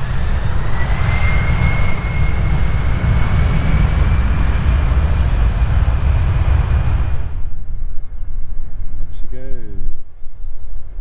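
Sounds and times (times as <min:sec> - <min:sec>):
airplane engines whining: 0:00.0 - 0:09.3
deep rumble: 0:00.0 - 0:11.0.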